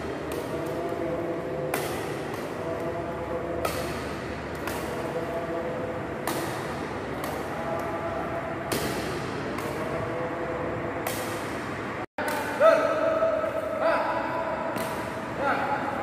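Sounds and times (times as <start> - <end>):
rackets striking shuttlecock: 0.0 - 10.3, 10.9 - 16.0.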